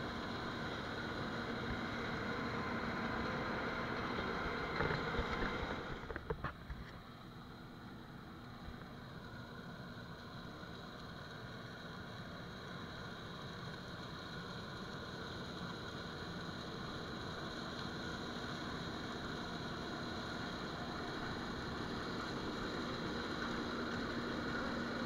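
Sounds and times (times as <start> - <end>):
combine harvester engine: 0.0 - 25.0.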